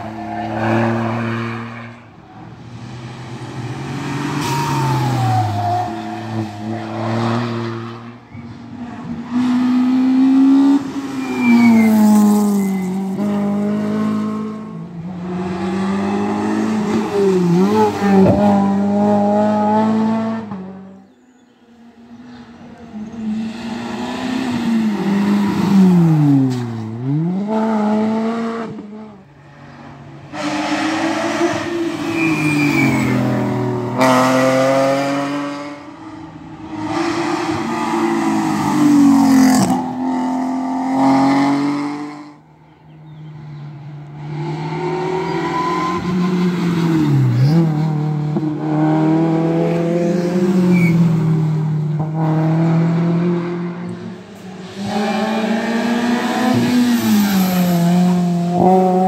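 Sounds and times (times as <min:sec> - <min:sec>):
rally car engines revving past: 0:00.0 - 0:59.0.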